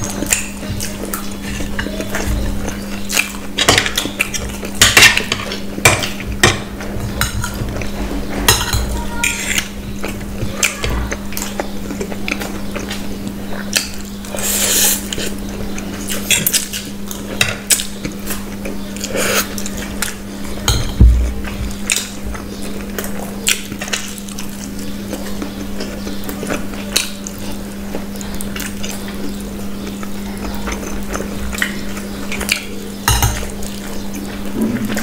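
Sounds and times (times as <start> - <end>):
eating noises: 0.0 - 35.0
steady low hum: 0.0 - 35.0.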